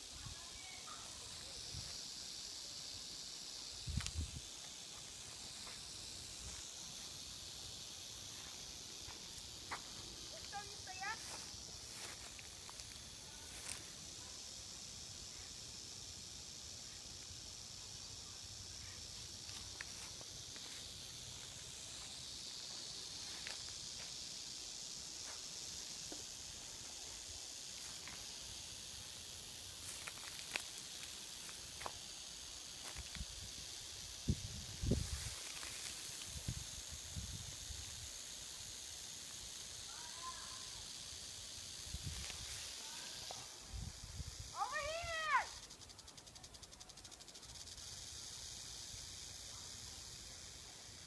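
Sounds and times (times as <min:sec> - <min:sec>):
rattlesnake rattling: 0:00.0 - 0:51.0.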